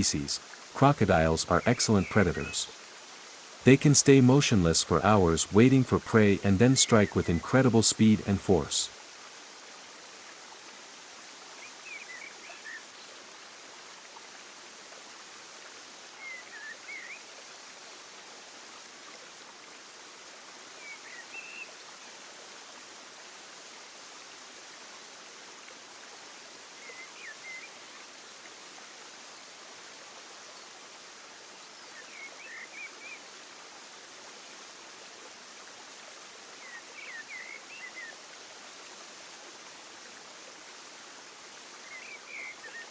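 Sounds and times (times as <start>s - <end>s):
running water: 0.0s - 42.9s.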